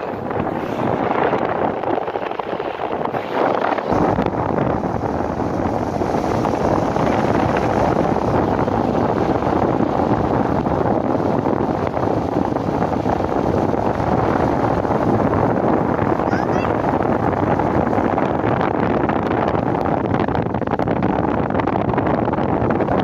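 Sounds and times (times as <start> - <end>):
car driving on wet road: 0.0 - 23.0.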